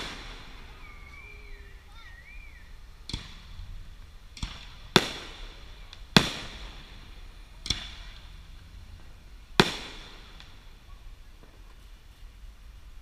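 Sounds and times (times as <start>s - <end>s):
distant firework booms: 0.0s - 11.8s.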